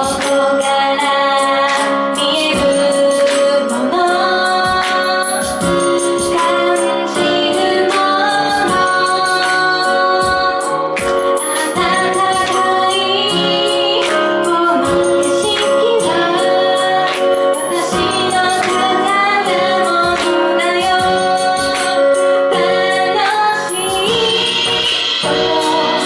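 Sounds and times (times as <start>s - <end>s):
instrumental accompaniment with beat: 0.0s - 26.0s
woman singing pop song: 0.0s - 26.0s.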